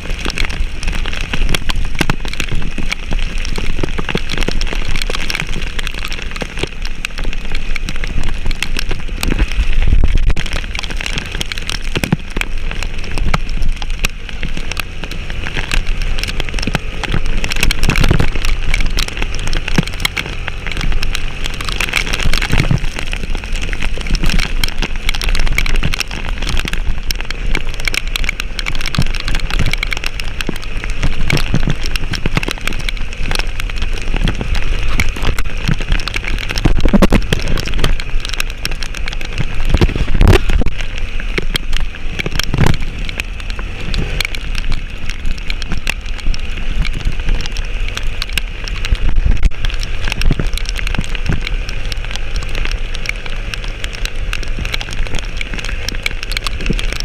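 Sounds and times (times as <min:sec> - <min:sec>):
heavy rain pattering: 0:00.0 - 0:57.0
moving vehicle rumble: 0:00.0 - 0:57.0.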